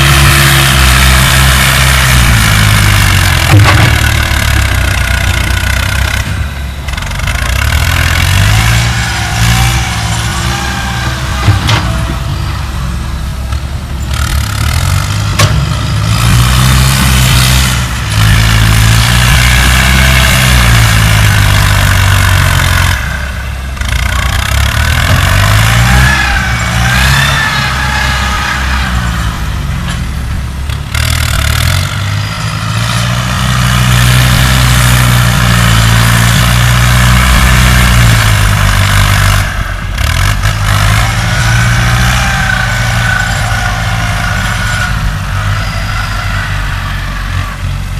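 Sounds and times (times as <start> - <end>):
diesel engine labouring: 0.0 - 47.9.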